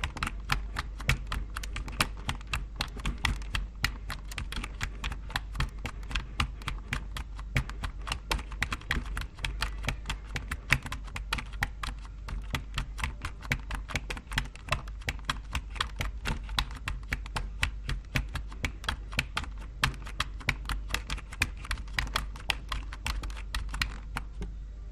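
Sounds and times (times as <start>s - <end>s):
keyboard typing: 0.0s - 24.4s.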